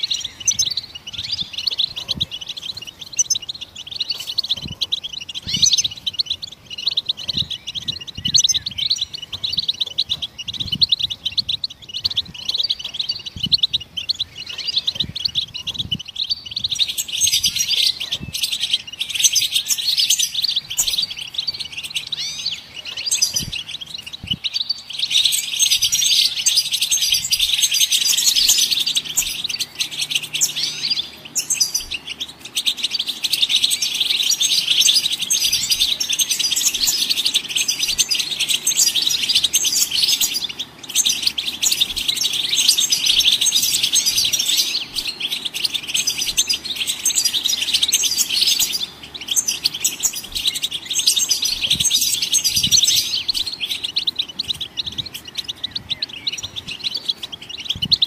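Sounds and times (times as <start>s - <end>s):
goldfinch twittering song: 0.0s - 58.0s.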